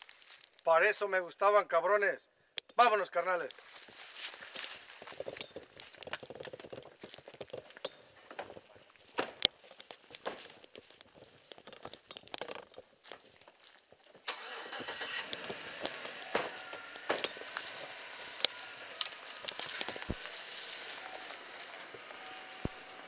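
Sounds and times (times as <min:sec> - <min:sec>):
footsteps crunching through dry leaves: 0:00.0 - 0:00.7, 0:03.5 - 0:07.7, 0:08.5 - 0:23.0.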